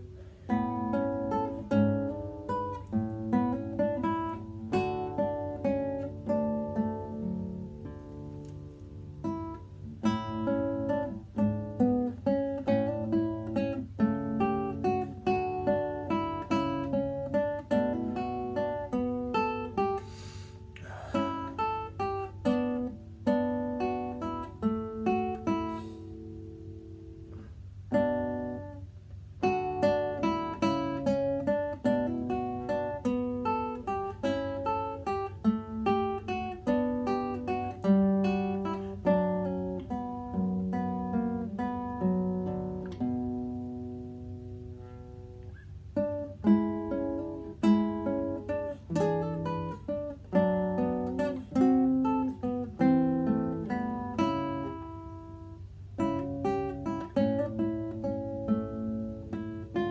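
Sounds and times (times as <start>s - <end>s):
classical guitar fingerpicked: 0.0s - 59.9s.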